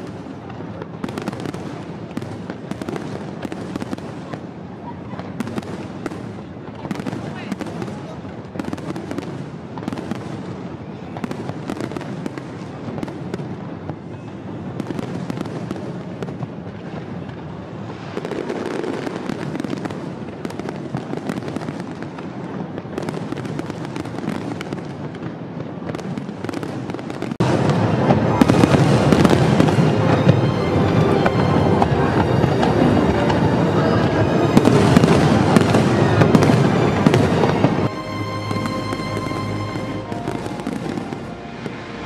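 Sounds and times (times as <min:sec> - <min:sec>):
firework crackle: 0:00.0 - 0:42.0.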